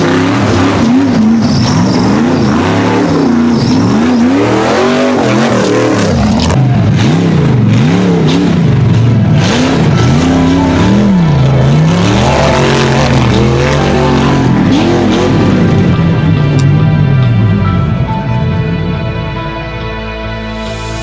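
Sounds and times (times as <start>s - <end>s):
race vehicle engine revving: 0.0s - 17.6s.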